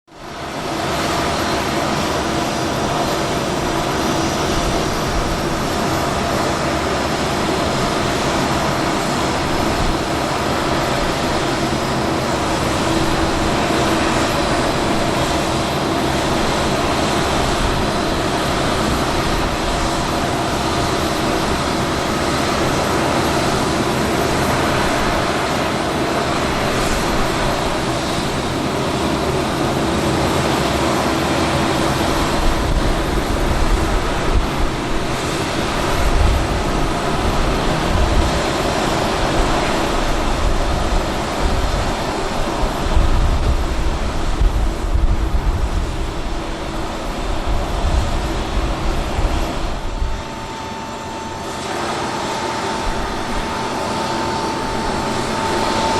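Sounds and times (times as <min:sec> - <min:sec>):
jet turbine engines running: 0:00.1 - 0:55.9.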